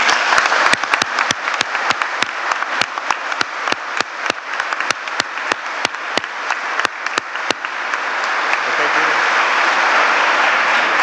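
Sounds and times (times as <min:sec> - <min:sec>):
individual sharp claps: 0:00.0 - 0:09.1
congregation applauding: 0:00.0 - 0:11.0.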